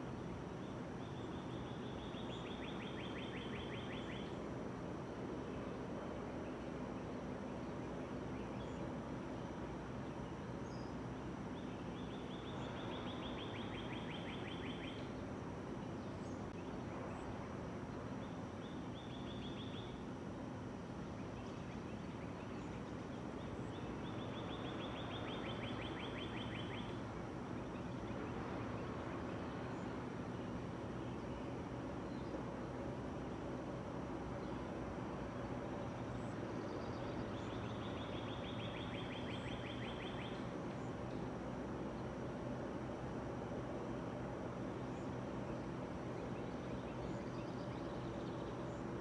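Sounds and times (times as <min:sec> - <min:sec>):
outdoor background hiss: 0:00.0 - 0:49.0.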